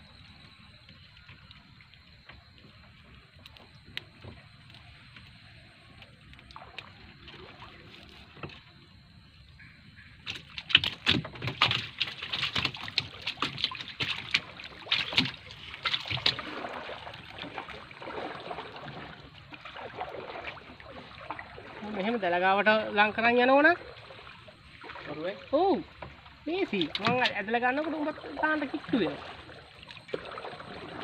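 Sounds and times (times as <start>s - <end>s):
water splashing against boat: 0.0s - 31.0s.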